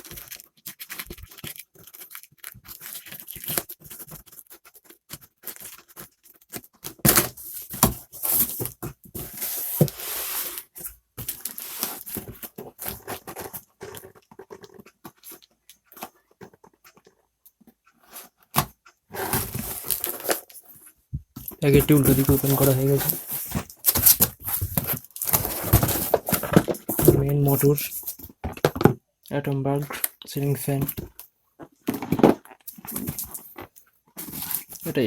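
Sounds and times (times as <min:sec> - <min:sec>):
cardboard scraping and rustling: 0:00.1 - 0:15.4, 0:18.0 - 0:29.0, 0:30.5 - 0:35.0.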